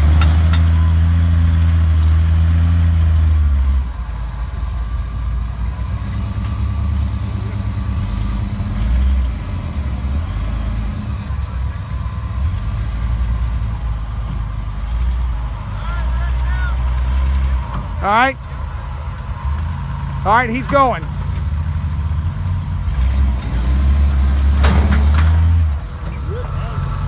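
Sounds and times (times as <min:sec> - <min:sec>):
big engine running hard: 0:00.0 - 0:27.0.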